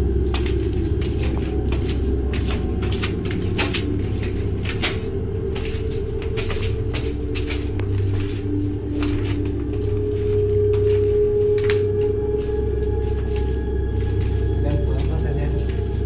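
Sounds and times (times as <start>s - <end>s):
footsteps and scuffs: 0.0s - 16.0s
steady low rumble: 0.0s - 16.0s.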